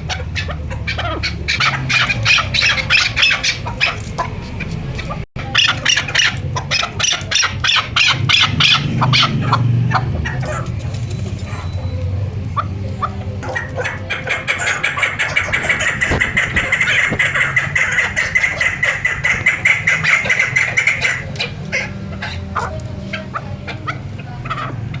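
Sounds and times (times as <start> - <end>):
partridge clucking calls: 0.0 - 25.0.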